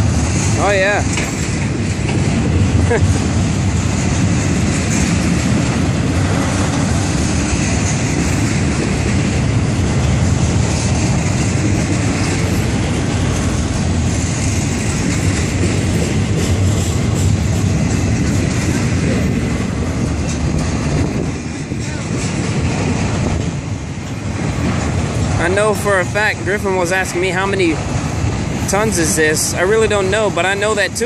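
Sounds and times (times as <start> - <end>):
freight train rumbling on rails: 0.0 - 31.0.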